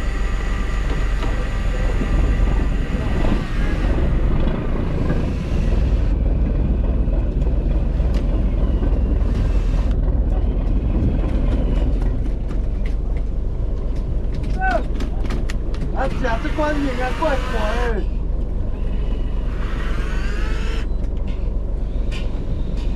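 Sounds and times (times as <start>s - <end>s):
boat engine running: 0.0s - 22.9s.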